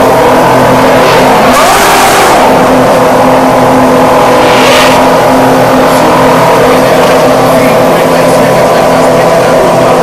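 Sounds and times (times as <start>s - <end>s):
racing car passing: 0.0s - 9.8s
racing car engine revving: 0.0s - 10.0s
racing car engines running loud: 0.0s - 10.0s.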